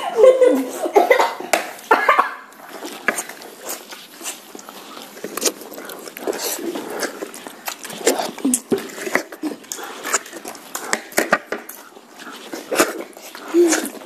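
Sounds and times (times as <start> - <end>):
children chewing and smacking: 0.2 - 14.0.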